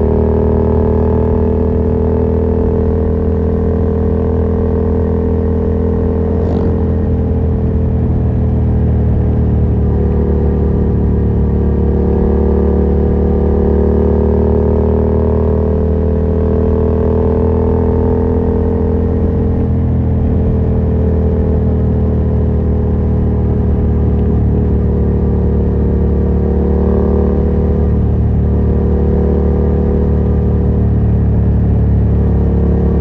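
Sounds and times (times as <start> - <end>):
motorcycle engine running loud: 0.0 - 33.0.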